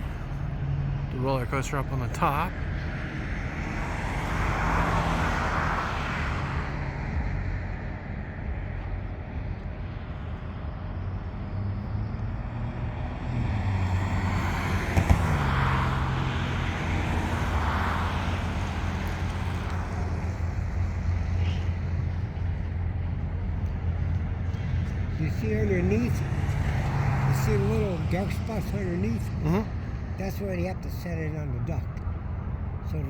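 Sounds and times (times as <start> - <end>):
heavy engine running: 0.0 - 33.0.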